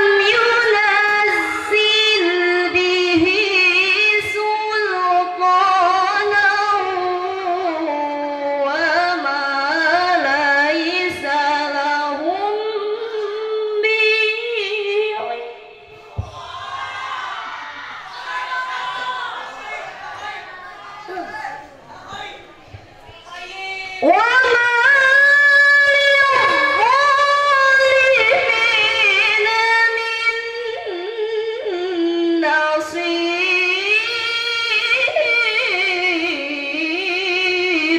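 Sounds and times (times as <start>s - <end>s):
woman chanting into microphone: 0.0s - 17.4s, 19.3s - 37.9s.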